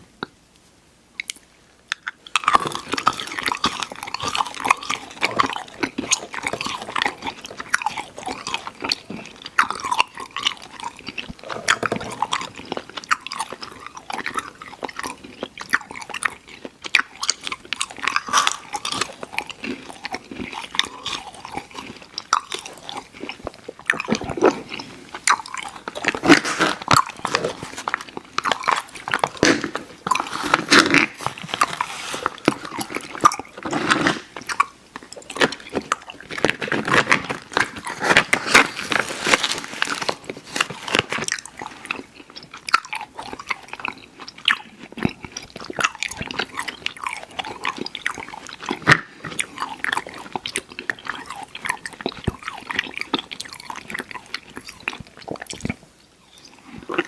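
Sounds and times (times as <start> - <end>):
chewing chewy candy: 1.2 - 57.0.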